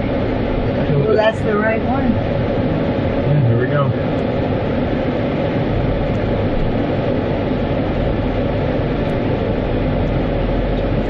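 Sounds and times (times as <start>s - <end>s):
car wash machinery and spray: 0.0s - 11.0s.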